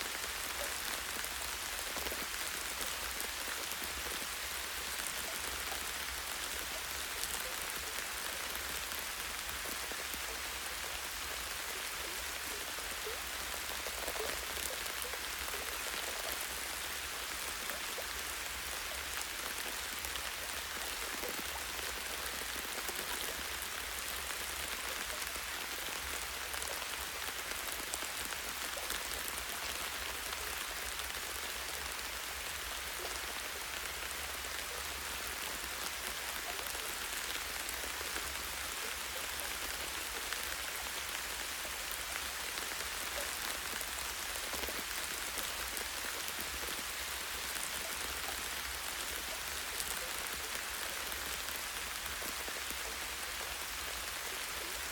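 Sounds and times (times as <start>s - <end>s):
rain pattering on leaves: 0.0s - 54.9s.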